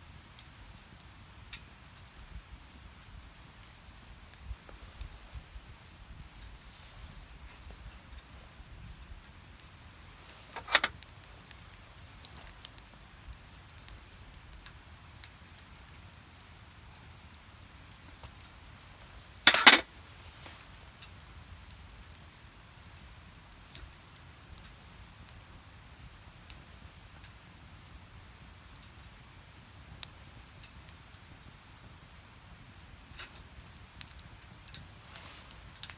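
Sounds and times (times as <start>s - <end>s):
faint pops of fire: 0.0s - 22.6s, 28.3s - 35.9s
firewood burning and crackling: 0.0s - 35.9s.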